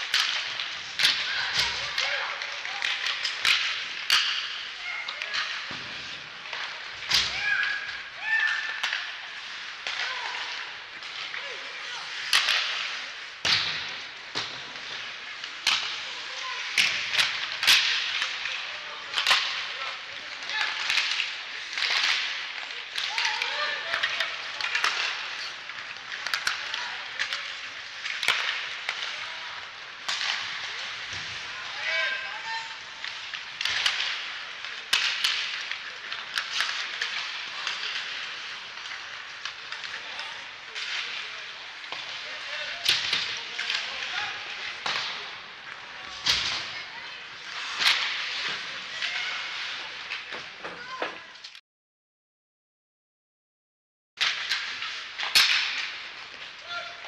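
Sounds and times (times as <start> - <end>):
hockey sticks and puck clacking: 0.0 - 51.6, 54.2 - 57.0
skates scraping on ice: 0.0 - 51.6.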